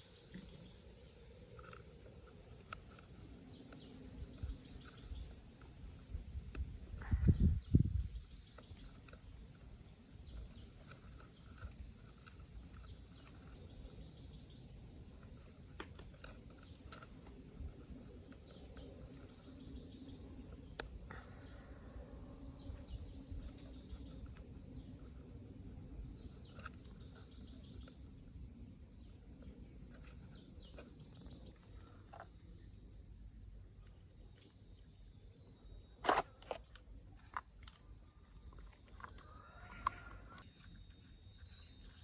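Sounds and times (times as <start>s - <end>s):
insects chirping: 0.0s - 42.0s
insects droning: 0.0s - 42.0s.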